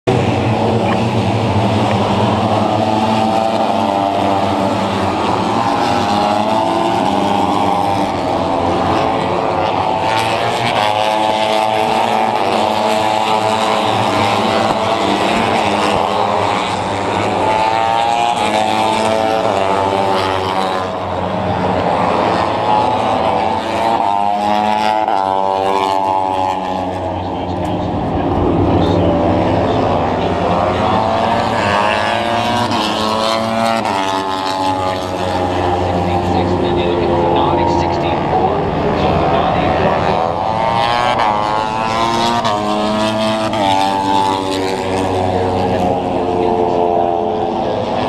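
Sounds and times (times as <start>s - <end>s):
racing motorcycle engines: 0.0s - 48.0s.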